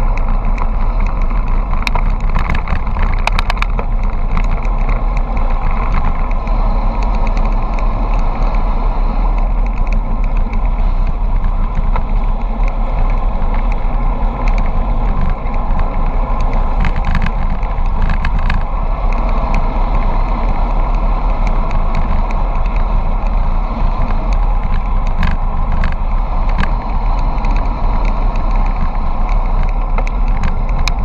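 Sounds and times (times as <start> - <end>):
road and tyre rumble: 0.0 - 31.0
wind buffeting microphone: 0.0 - 31.0.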